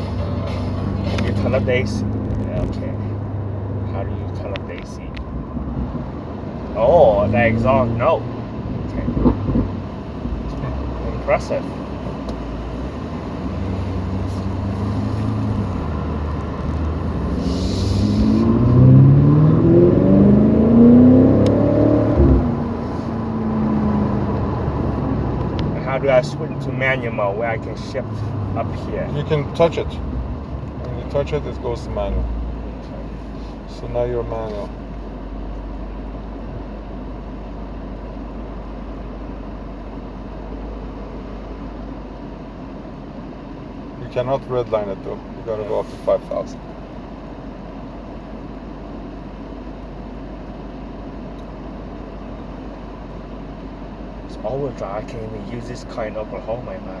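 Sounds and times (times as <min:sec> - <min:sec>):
car engine accelerating: 0:00.0 - 0:57.0
road noise: 0:00.0 - 0:57.0.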